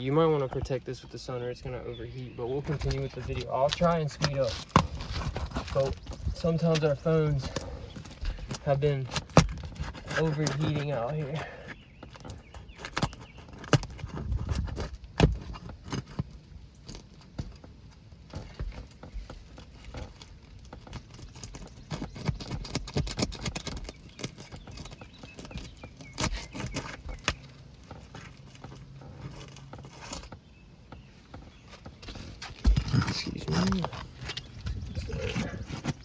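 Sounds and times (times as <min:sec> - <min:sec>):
hand tool scraping roof shingles: 0:00.0 - 0:36.0.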